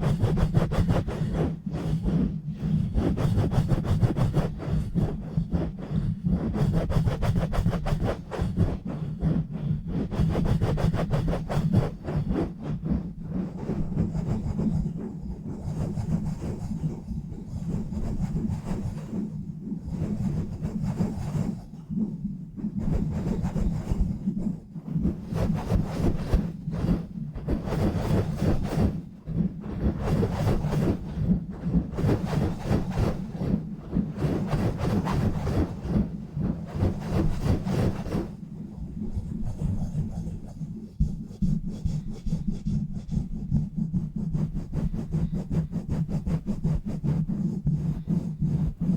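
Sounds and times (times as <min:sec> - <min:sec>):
rubbing on a bare microphone: 0:00.0 - 0:48.9.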